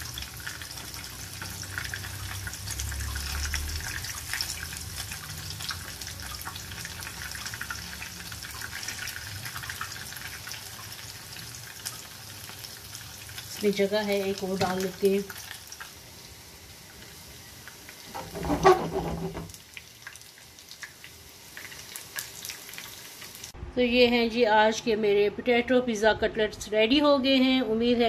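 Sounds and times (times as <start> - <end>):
food sizzling in hot oil: 0.0 - 23.6.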